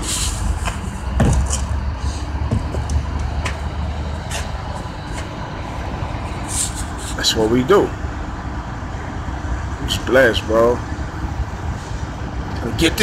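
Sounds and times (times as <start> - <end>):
low rumble of vehicles and machinery: 0.0 - 13.0.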